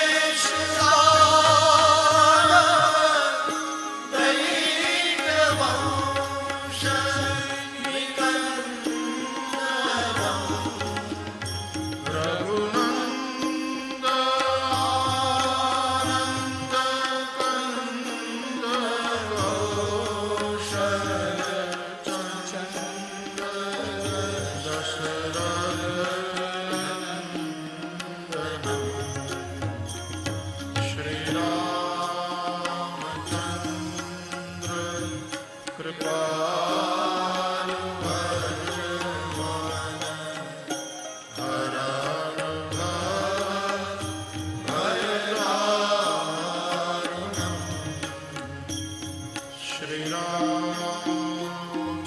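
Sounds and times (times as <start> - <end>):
devotional music with ornamented melody: 0.0 - 52.0.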